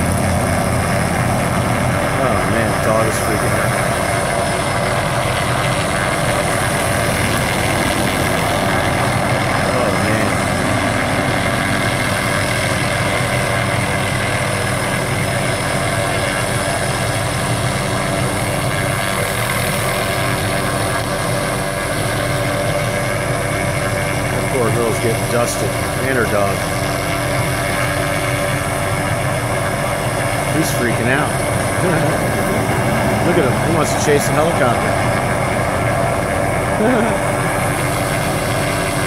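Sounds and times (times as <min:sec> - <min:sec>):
helicopter hovering overhead: 0:00.0 - 0:39.0.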